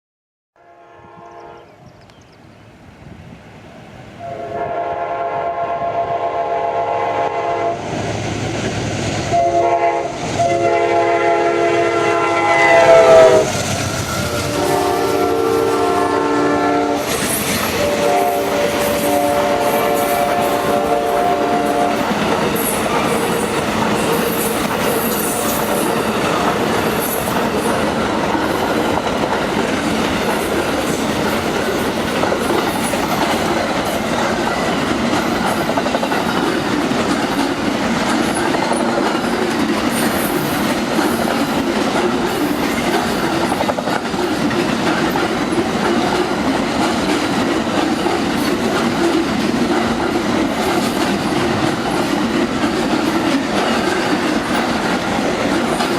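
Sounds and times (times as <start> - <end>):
train wheels roaring on rails: 2.7 - 55.9.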